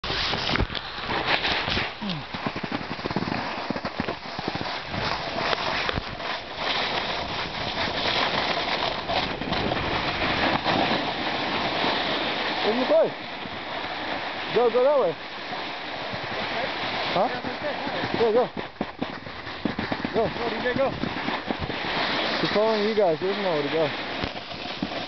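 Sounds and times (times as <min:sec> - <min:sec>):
snow scraping under skis: 0:00.0 - 0:25.0
wind buffeting microphone: 0:01.6 - 0:13.7, 0:16.0 - 0:24.9.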